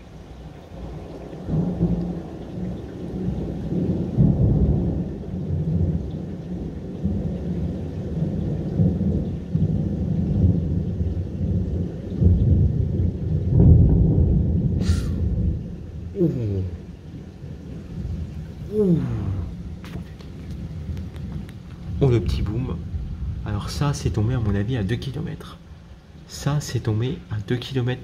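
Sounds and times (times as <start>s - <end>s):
rolling thunder: 0.0s - 27.2s
rain falling: 0.0s - 28.0s.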